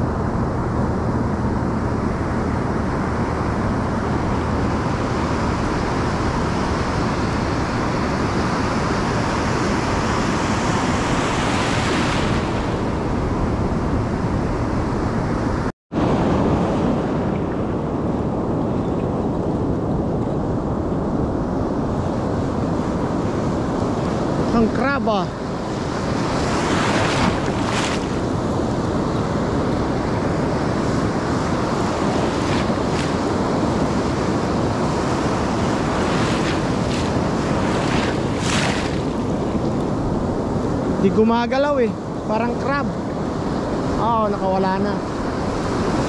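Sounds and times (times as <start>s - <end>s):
ocean surf washing in: 0.0s - 46.0s
wind on microphone: 0.0s - 46.0s.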